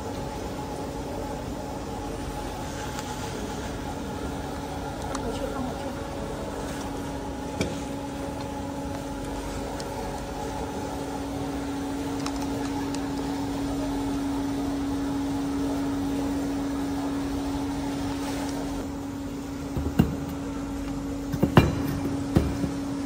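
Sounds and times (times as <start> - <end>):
machine electrical hum: 0.0 - 23.0.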